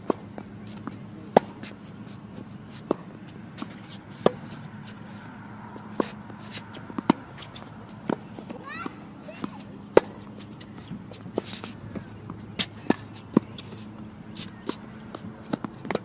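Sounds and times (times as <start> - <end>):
racket hitting tennis ball: 0.0 - 16.0
tennis ball bouncing: 0.0 - 16.0.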